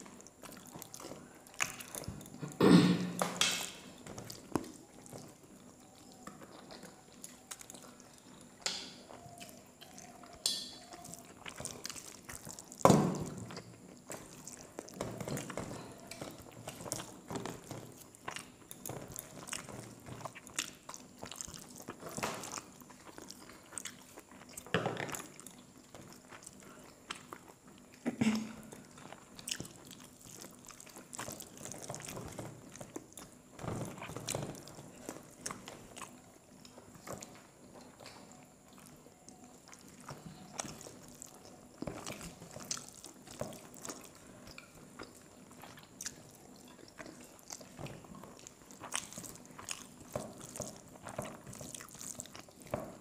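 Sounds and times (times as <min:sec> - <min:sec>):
chewing and mouth sounds: 0:00.0 - 0:53.0.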